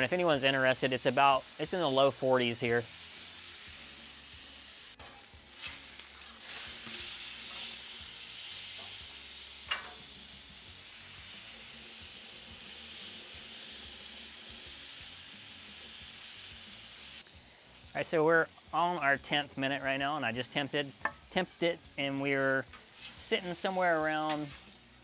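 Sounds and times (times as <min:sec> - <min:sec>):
steak sizzling on a griddle: 0:00.0 - 0:25.0.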